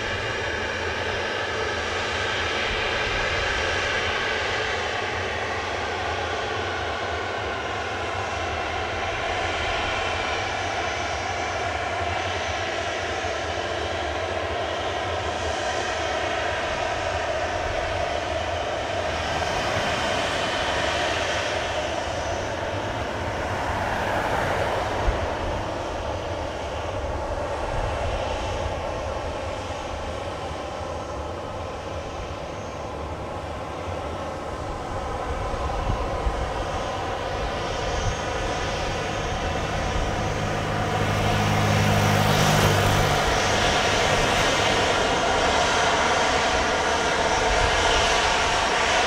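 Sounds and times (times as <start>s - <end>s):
jet engine turbine whine: 0.0s - 49.0s.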